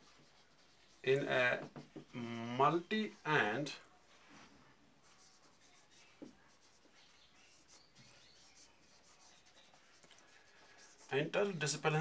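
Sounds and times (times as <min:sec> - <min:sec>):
marker writing on whiteboard: 0:00.0 - 0:12.0.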